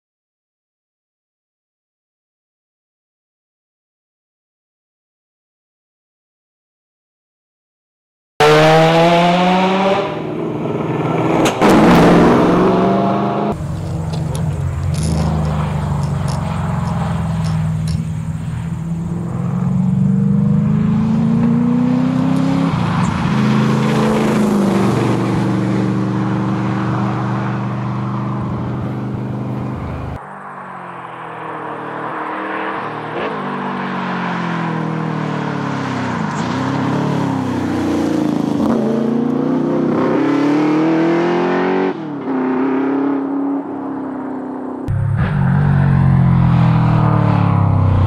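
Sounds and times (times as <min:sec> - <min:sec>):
car engine revving at speed: 0:08.4 - 0:48.0.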